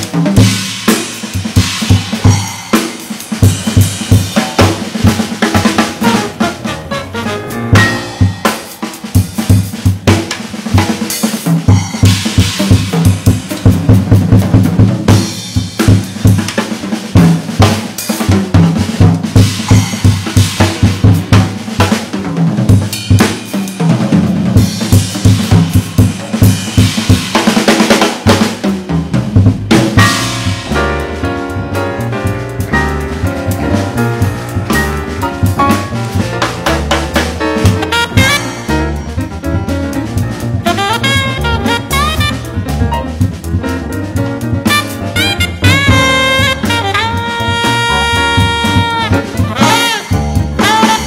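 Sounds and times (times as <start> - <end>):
drum kit playing fast: 0.0 - 51.0.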